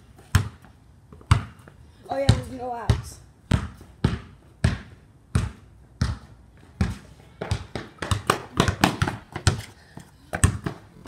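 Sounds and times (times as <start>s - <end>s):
basketball bouncing on concrete: 0.2s - 10.9s.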